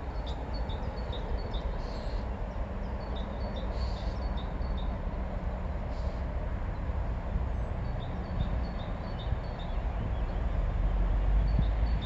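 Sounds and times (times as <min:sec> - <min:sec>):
distant traffic: 0:00.0 - 0:12.0
low wind rumble: 0:00.0 - 0:12.0.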